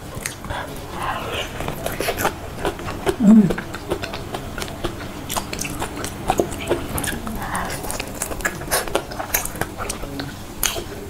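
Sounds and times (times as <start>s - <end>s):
chewing and smacking mouth sounds: 0.0s - 11.0s.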